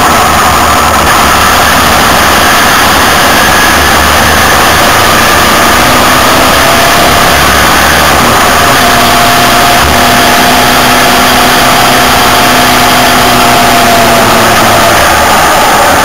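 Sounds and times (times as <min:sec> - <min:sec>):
faint rising whine: 0:00.0 - 0:16.0
motorcycle engine running: 0:00.0 - 0:16.0
wind and road noise: 0:00.0 - 0:16.0.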